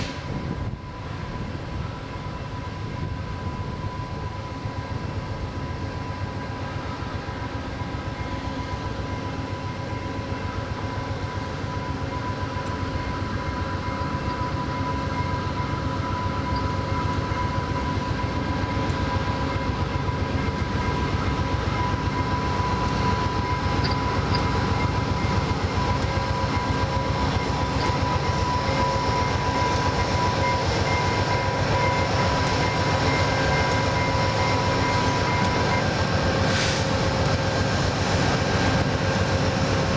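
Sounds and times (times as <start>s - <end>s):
diesel train rumbling: 0.0s - 39.9s.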